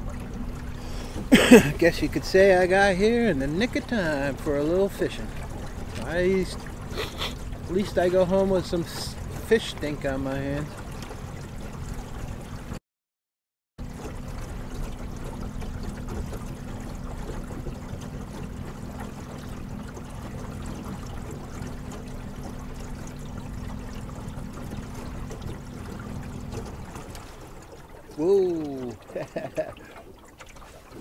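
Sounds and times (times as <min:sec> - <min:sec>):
water rushing along hull: 0:00.0 - 0:12.8, 0:13.8 - 0:31.0.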